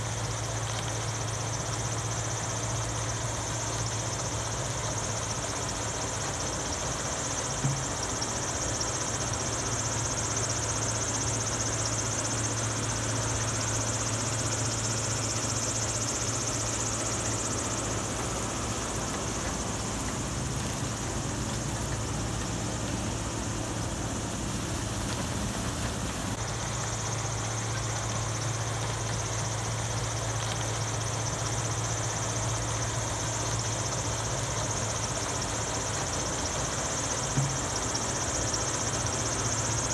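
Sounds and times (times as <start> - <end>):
machinery hum and whine: 0.0 - 39.9.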